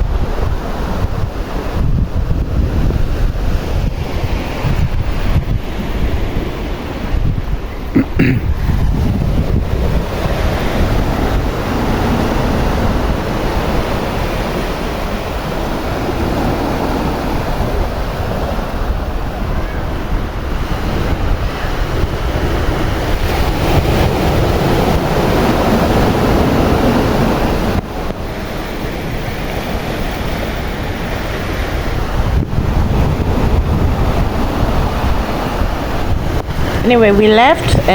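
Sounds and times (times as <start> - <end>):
sea waves washing in: 0.0 - 37.9
wind buffeting microphone: 0.0 - 37.9.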